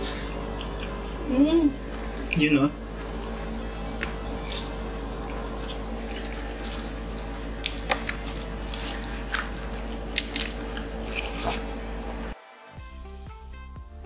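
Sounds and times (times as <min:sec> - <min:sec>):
chewing and crunching: 0:00.0 - 0:11.8
low hum: 0:00.0 - 0:12.4.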